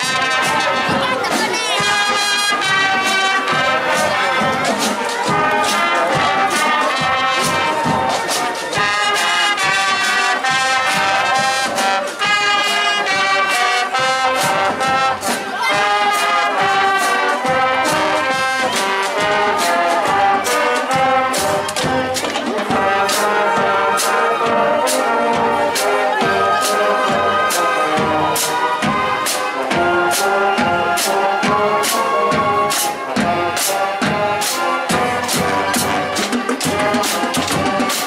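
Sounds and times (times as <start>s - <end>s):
marching band playing: 0.0s - 38.0s
trumpets and trombones: 0.0s - 38.0s.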